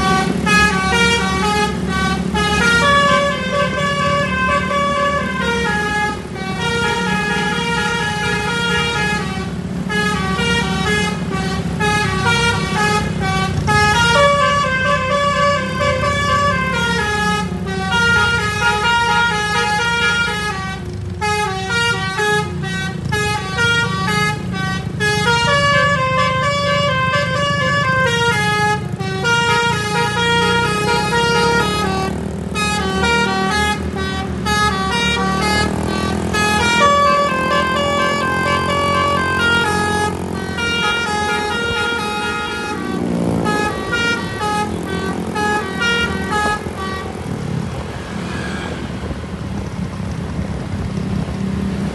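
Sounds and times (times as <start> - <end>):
musical air horn melody: 0.0 - 47.5
bus engine rumble: 0.0 - 51.9.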